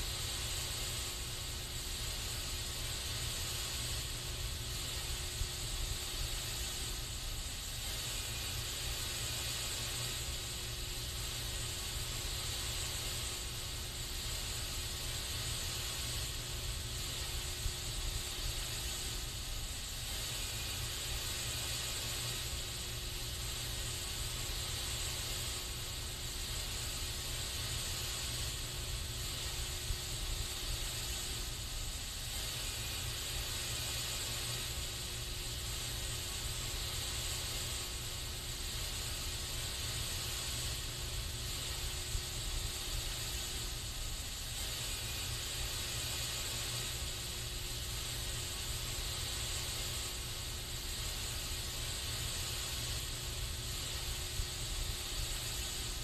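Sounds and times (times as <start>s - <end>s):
aerosol spray can hissing: 0.0s - 56.0s.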